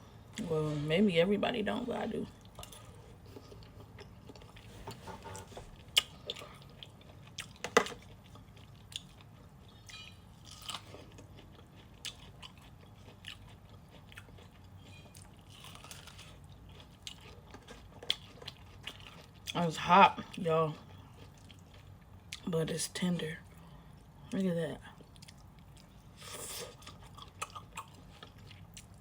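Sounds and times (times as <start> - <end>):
person chewing food: 2.4 - 19.6, 20.2 - 22.4, 25.0 - 29.0.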